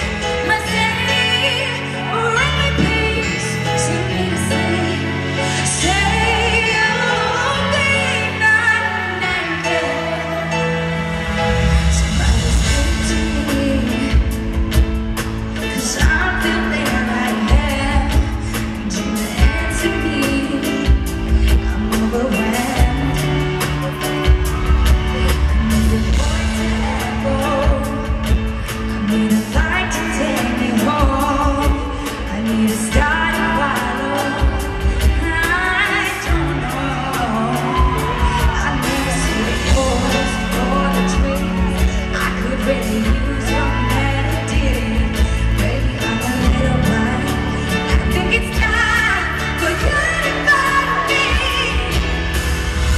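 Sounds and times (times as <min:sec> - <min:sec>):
band with bass and drums: 0:00.0 - 0:52.9
woman singing into a microphone: 0:00.0 - 0:52.9.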